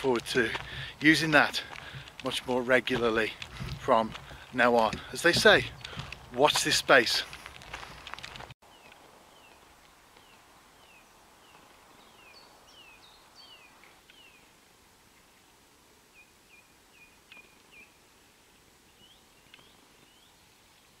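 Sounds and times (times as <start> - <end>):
faint birdsong: 0.0 - 7.2, 7.8 - 21.0.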